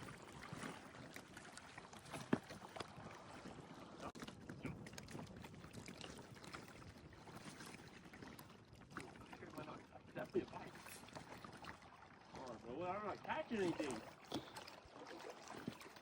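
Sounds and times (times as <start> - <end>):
river water trickling: 0.0 - 16.0.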